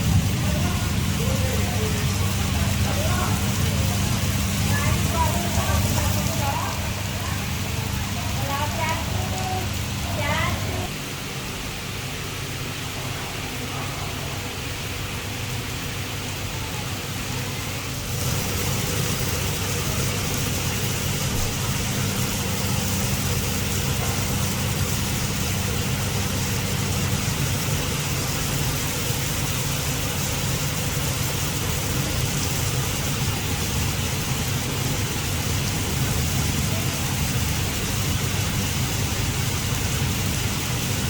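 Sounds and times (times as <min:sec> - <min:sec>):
heavy rain pouring: 0:00.0 - 0:41.0
low engine-like hum: 0:00.0 - 0:41.0.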